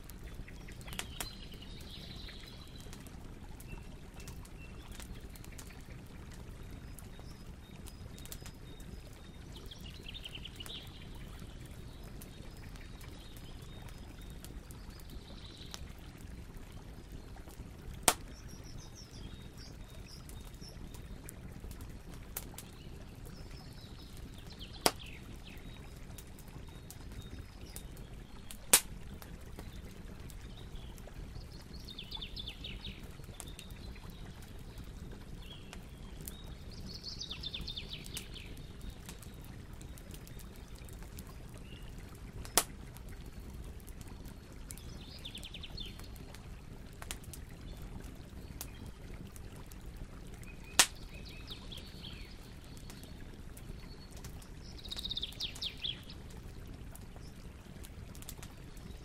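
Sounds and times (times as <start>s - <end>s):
bonfire crackling: 0.0s - 59.0s
burning logs popping: 0.0s - 59.0s.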